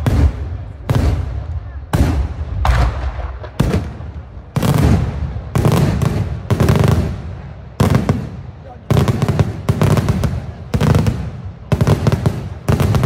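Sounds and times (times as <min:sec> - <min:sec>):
rumbling echo: 0:00.0 - 0:13.0.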